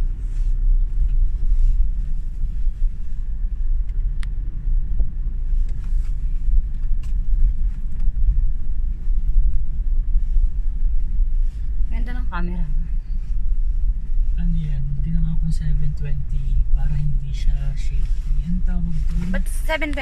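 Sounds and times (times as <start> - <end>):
engine and road rumble in cabin: 0.0 - 20.0.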